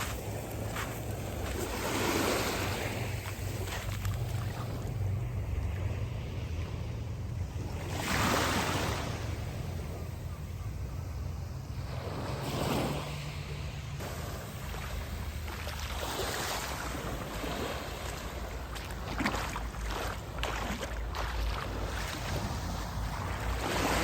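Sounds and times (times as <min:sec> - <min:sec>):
sea waves washing: 0:00.0 - 0:24.0.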